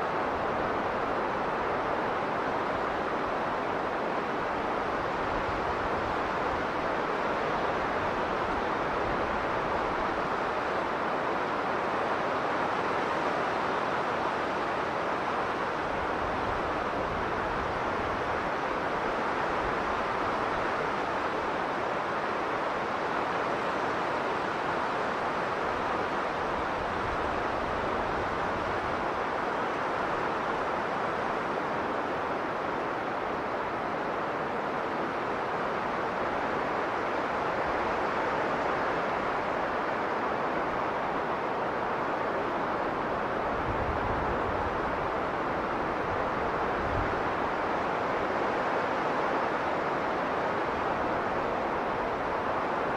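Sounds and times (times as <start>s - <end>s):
strong blizzard wind: 0.0s - 52.9s.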